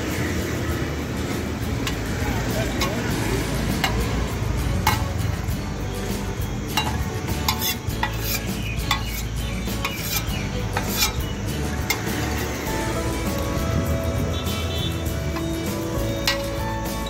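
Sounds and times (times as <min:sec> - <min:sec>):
food sizzling: 0:00.0 - 0:17.0
metal spatula scraping griddle: 0:01.7 - 0:17.0.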